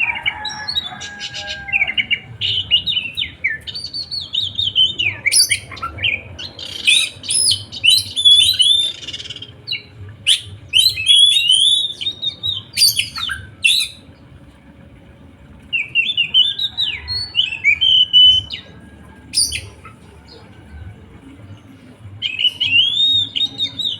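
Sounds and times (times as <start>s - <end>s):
songbird chirps and trills: 0.0s - 23.9s.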